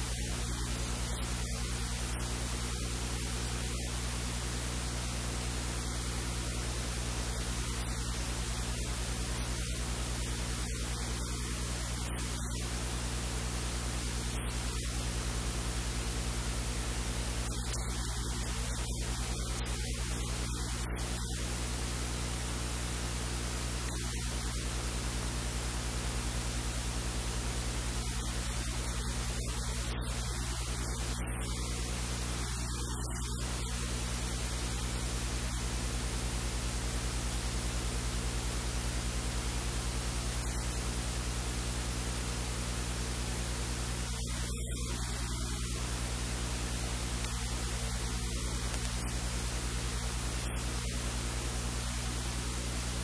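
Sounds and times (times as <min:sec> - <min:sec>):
electrical hiss and static: 0:00.0 - 0:53.0
low mains hum: 0:00.0 - 0:53.0.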